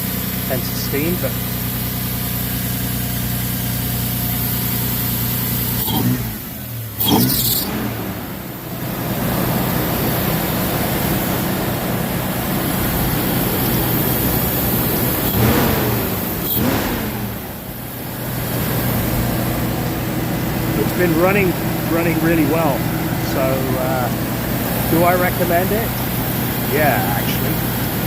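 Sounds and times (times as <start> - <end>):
engine idling: 0.0 - 28.0
engine revving: 2.3 - 28.0.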